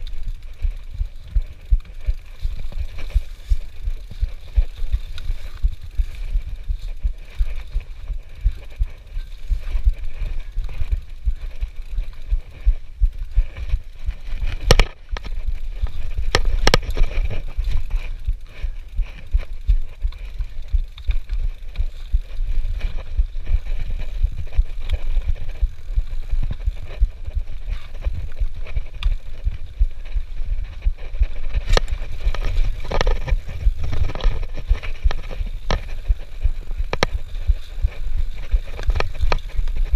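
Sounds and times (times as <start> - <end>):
bike hitting bumps: 0.0 - 39.9
bike tyres rumbling on dirt: 0.0 - 39.9.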